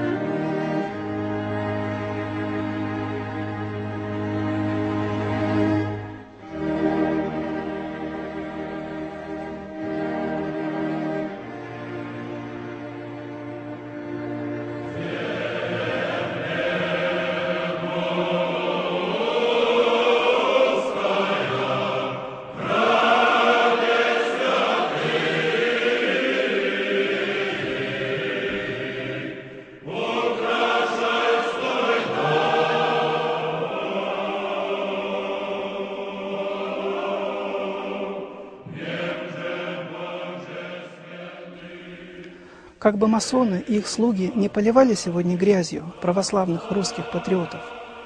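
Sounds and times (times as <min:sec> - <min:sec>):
church choir singing: 0:00.0 - 0:48.0.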